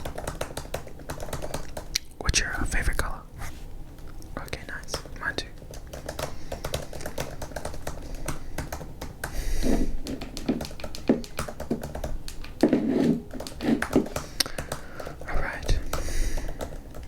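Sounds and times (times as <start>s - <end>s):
keyboard typing clicks: 0.0s - 2.1s, 4.6s - 17.0s.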